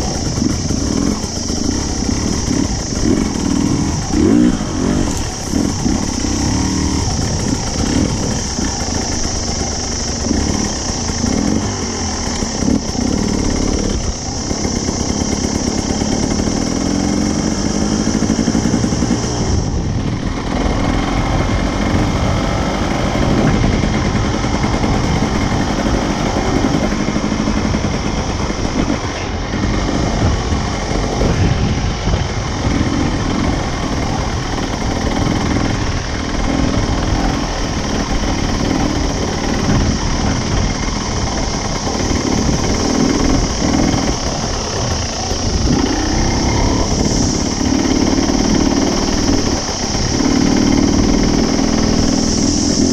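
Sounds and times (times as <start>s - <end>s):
dirt bike engine revving: 0.0s - 52.9s
rushing noise: 0.0s - 52.9s.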